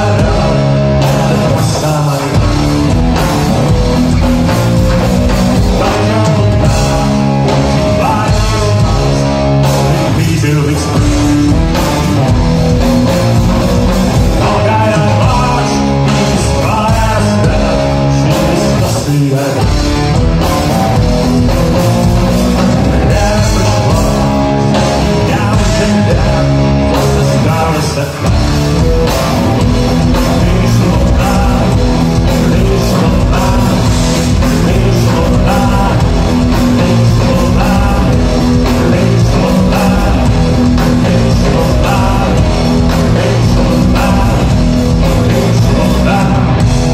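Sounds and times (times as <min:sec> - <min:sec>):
rock band playing loudly: 0:00.0 - 0:46.9.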